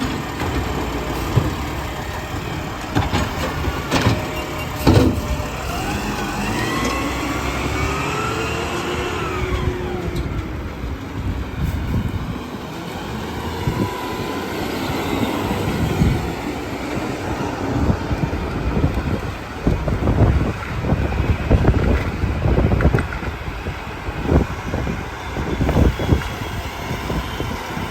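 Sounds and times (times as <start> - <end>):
garbage truck rumble: 0.0 - 27.9
garbage truck whine: 0.0 - 27.9.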